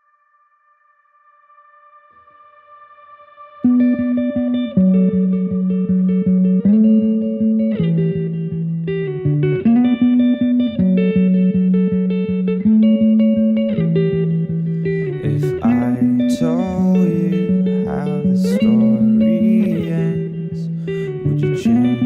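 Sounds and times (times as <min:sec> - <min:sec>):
plucked guitar notes: 0:03.5 - 0:22.0.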